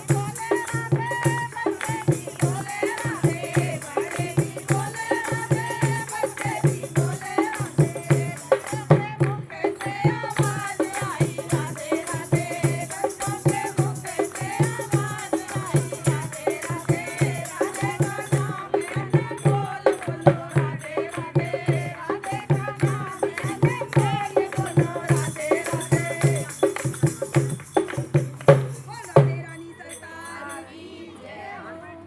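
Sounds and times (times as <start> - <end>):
hand percussion beat: 0.0 - 30.6.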